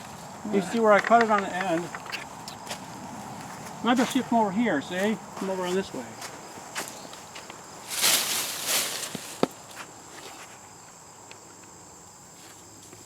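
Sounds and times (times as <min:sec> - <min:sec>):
footsteps rustling on ground: 0:00.0 - 0:11.0, 0:12.3 - 0:13.0
insects chirring: 0:00.0 - 0:13.0.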